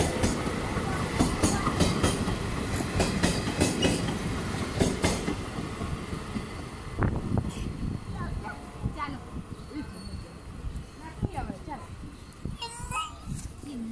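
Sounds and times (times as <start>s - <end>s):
train rumbling past: 0.0s - 12.6s.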